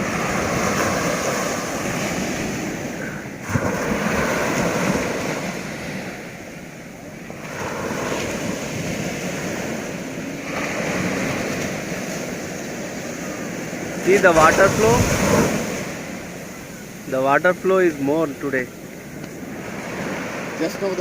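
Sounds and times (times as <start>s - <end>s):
sea waves breaking: 0.0s - 21.0s
wind buffeting microphone: 0.0s - 21.0s.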